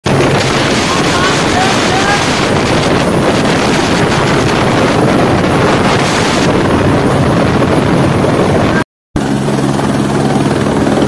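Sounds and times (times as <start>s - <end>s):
helicopter turbine and rotor: 0.0s - 11.0s
wind buffeting microphone: 0.0s - 11.0s.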